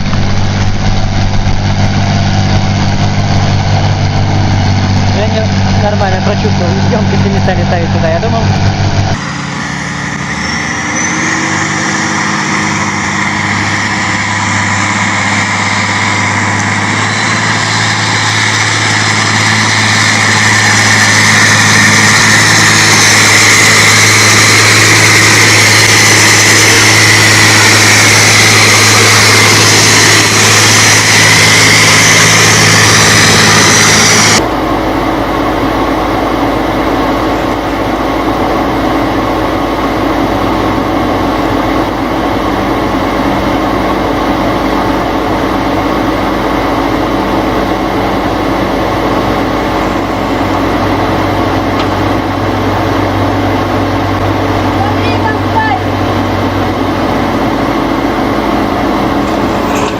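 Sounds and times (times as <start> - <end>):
low engine hum: 0.0 - 59.9
truck engine under load: 0.0 - 59.9.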